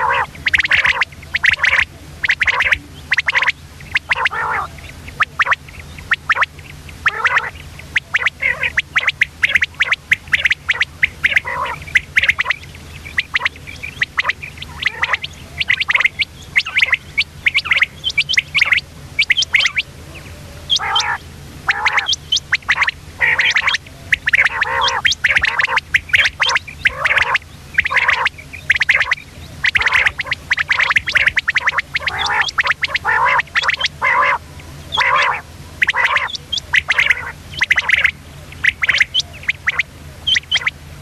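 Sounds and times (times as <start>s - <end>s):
faint low hum: 0.0s - 41.0s
quail calling: 0.0s - 41.0s.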